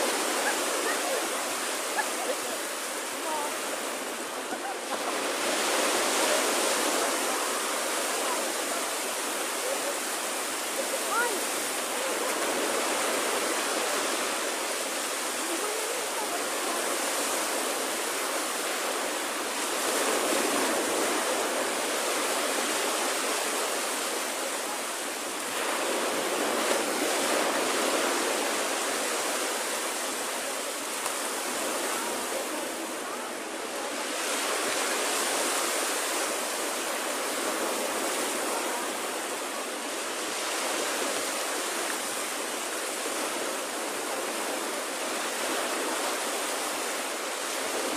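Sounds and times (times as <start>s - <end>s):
waves washing up a beach: 0.0s - 47.9s.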